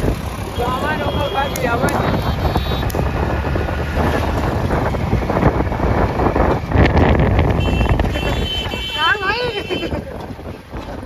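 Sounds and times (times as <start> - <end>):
motorcycle engine and road rumble: 0.0 - 11.0
wind buffeting microphone: 0.0 - 11.0.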